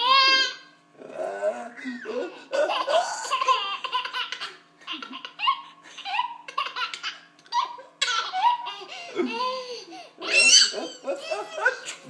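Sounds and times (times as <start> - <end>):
baby laughing: 0.0 - 0.6, 2.0 - 12.0.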